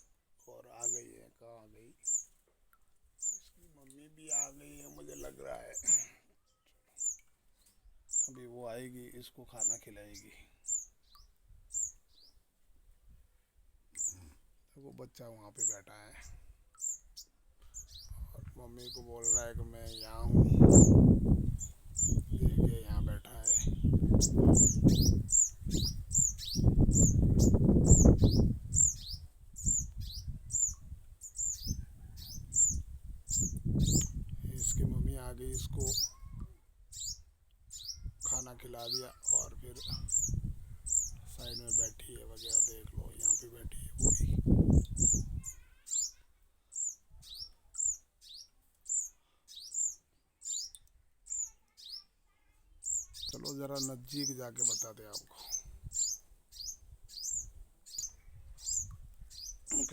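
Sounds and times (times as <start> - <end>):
young bird chirping: 0.8 - 2.4, 3.2 - 8.5, 9.6 - 12.4, 14.0 - 14.3, 15.6 - 59.9.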